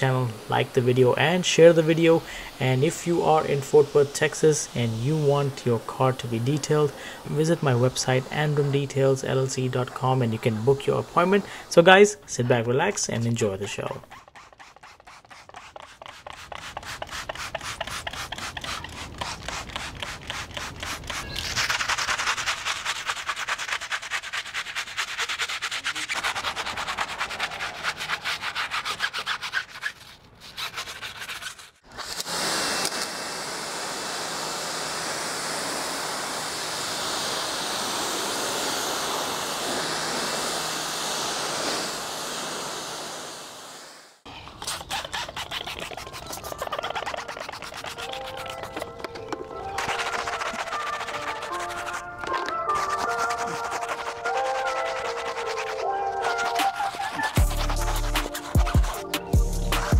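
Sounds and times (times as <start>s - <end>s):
pressure washer jet hissing: 0.0s - 29.0s, 31.9s - 44.2s, 49.7s - 59.0s
brush scrubbing tire: 0.0s - 43.2s, 44.6s - 59.9s.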